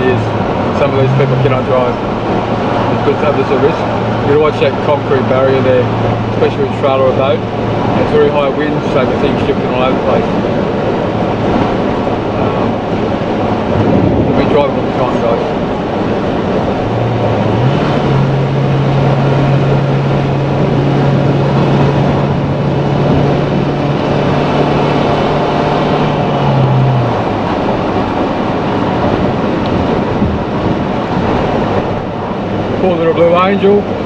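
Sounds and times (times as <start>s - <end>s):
low steady drone: 0.0s - 30.6s
road and wind noise in car: 0.0s - 34.0s.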